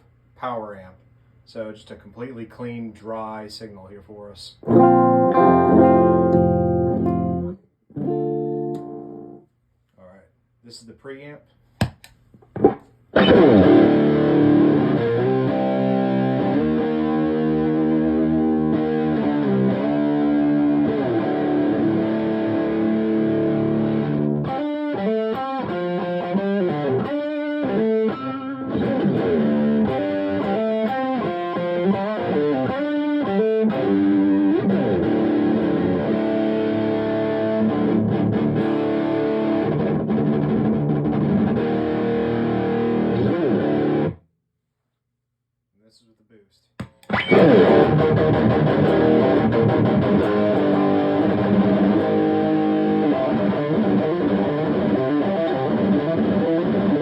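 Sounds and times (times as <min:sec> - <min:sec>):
distorted electric guitar riffs: 0:04.6 - 0:09.4, 0:12.6 - 0:44.2, 0:47.0 - 0:57.0.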